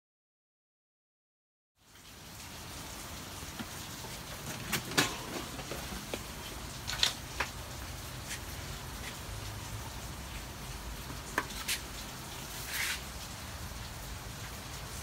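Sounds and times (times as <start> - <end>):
rain patter and hiss: 1.8 - 15.0.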